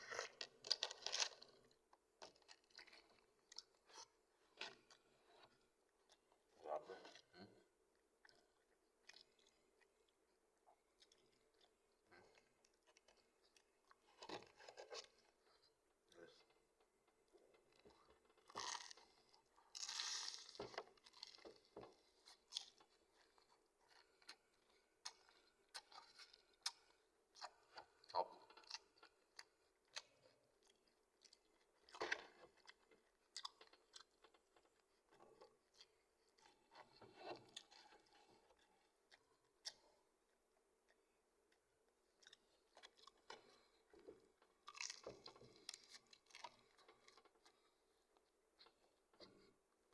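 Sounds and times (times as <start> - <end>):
chewing and crunching fried chicken: 0.0 - 49.9.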